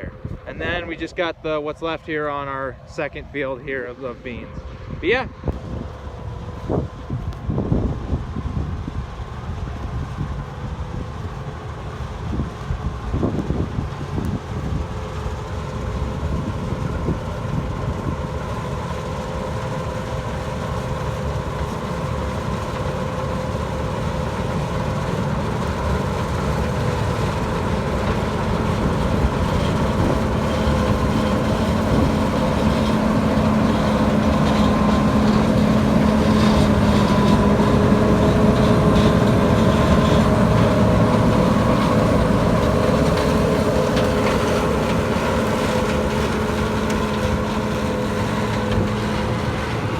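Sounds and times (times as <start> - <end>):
combine harvester humming: 0.0 - 49.9.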